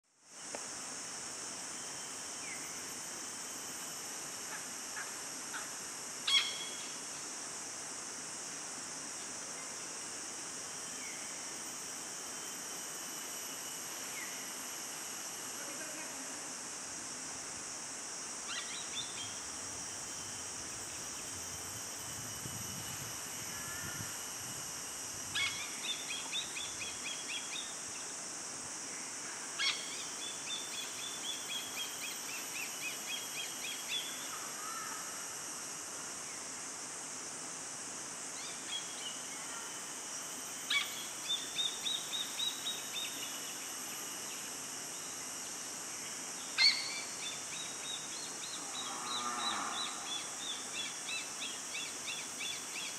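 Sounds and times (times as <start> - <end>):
high-pitched forest hiss: 0.0 - 52.9.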